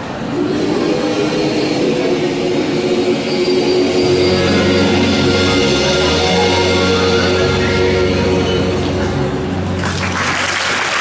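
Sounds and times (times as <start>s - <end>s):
gospel choir singing: 0.0s - 9.7s
low bass notes: 0.3s - 10.3s
piano: 1.8s - 11.0s.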